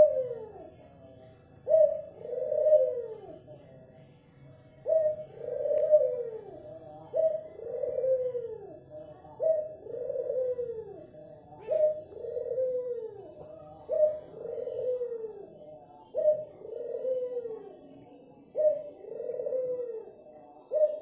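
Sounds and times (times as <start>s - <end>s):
dove cooing: 0.0s - 0.8s, 1.6s - 3.7s, 4.8s - 21.0s.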